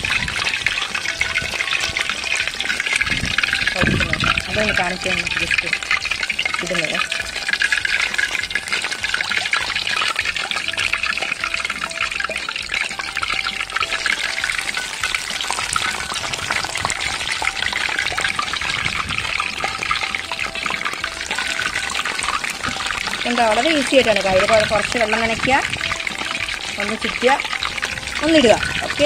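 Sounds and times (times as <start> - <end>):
fritters sizzling in hot oil: 0.0 - 29.0.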